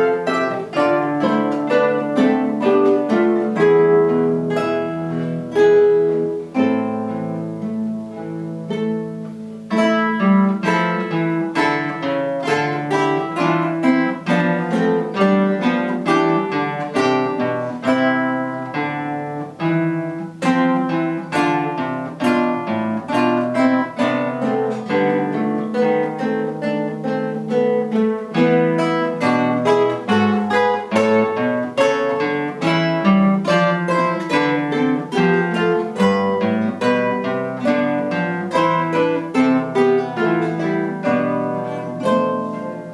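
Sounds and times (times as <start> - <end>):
acoustic guitars playing: 0.0 - 42.9.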